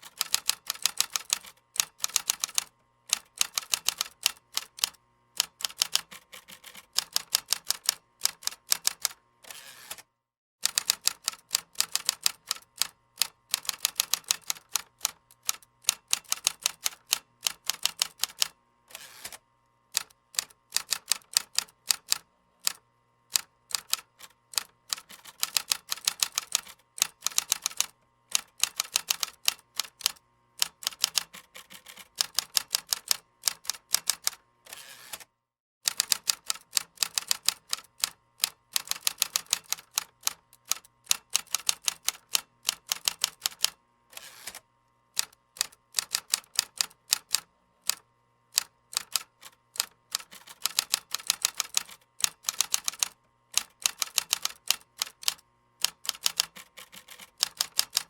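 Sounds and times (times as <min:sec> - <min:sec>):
typing on computer keyboard: 0:00.0 - 0:09.2, 0:10.6 - 0:18.6, 0:20.0 - 0:35.3, 0:35.9 - 0:43.8, 0:45.2 - 0:48.0, 0:48.6 - 0:58.0.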